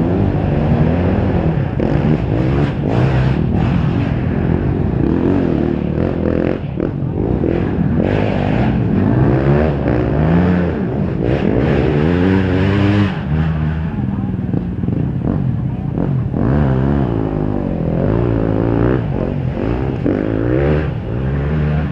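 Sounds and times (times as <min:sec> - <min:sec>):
motocross bike engines revving: 0:00.0 - 0:21.9.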